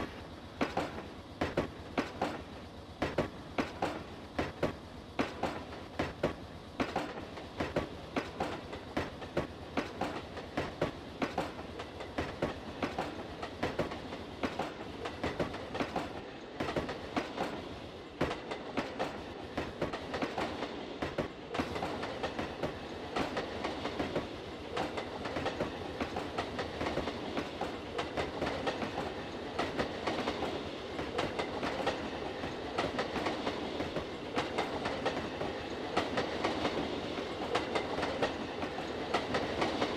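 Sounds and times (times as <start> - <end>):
freight train rumble: 0.0 - 39.9
train wheels clicking over rail joints: 0.0 - 39.9.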